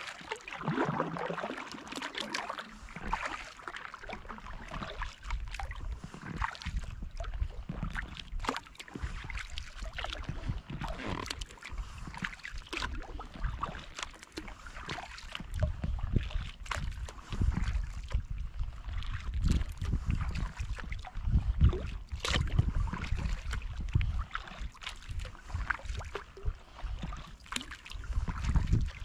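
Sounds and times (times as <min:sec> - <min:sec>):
kayak paddle strokes in water: 0:00.0 - 0:29.0
water dripping from paddle: 0:00.0 - 0:29.0.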